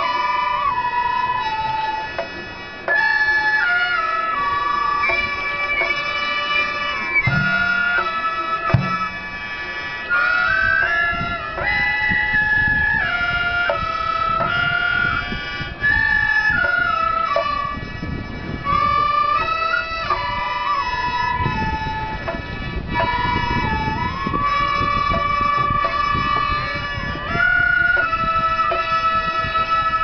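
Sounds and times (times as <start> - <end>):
wind instrument sliding melody: 0.0 - 30.0.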